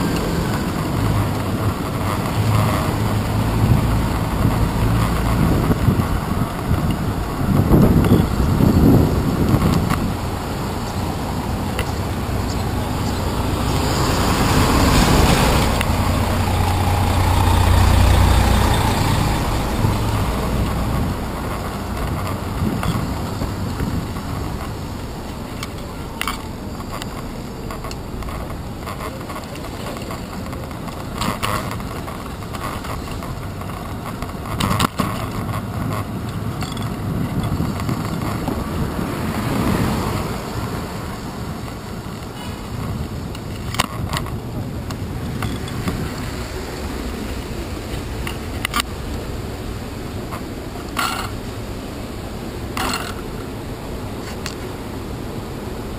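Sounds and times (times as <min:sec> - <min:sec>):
deep engine rumble: 0:00.0 - 0:55.9
passing car engines: 0:00.0 - 0:55.9
tyre and wind noise: 0:00.0 - 0:55.9.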